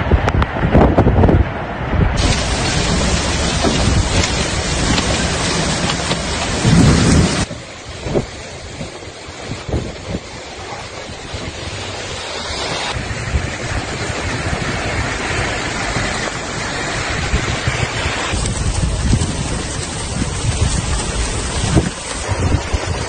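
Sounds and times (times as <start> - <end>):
wind buffeting microphone: 0.0 - 23.0
rushing floodwater: 2.2 - 23.0.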